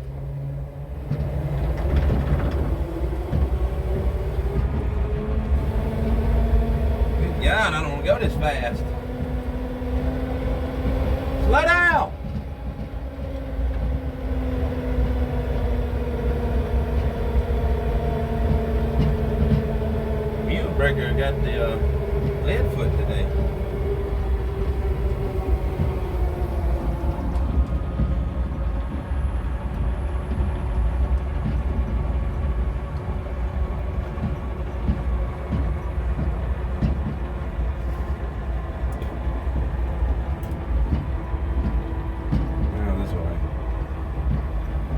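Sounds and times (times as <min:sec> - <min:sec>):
vehicle engine running under load: 0:00.0 - 0:44.9.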